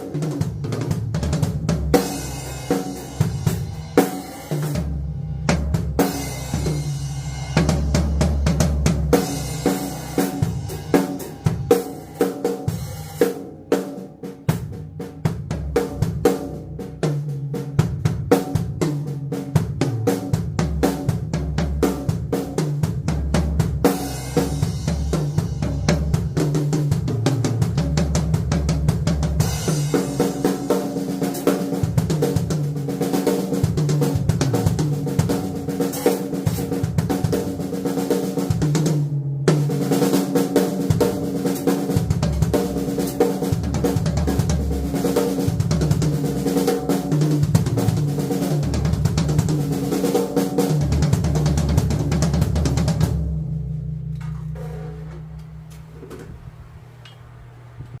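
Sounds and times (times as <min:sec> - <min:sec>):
acoustic drum kit playing: 0:00.0 - 0:57.0.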